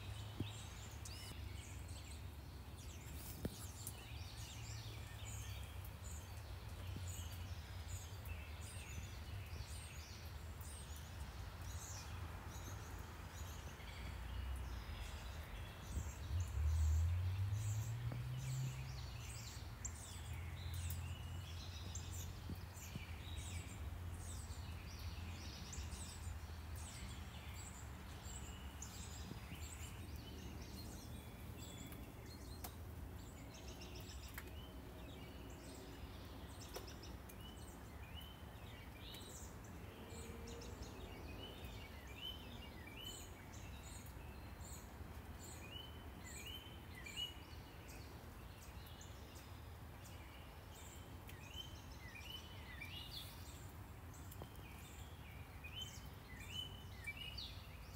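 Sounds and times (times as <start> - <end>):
low traffic rumble: 0.0 - 57.9
songbirds chirping and singing: 0.0 - 57.9.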